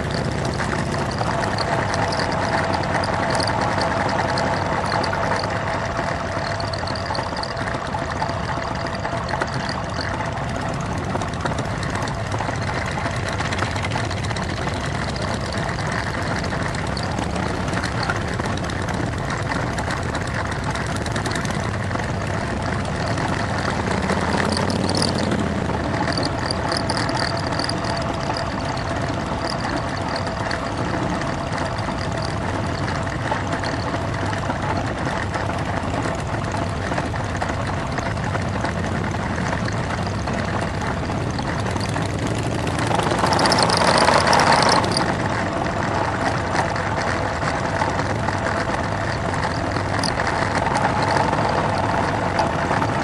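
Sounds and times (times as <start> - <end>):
motorcycle engines at low speed: 0.0 - 53.0.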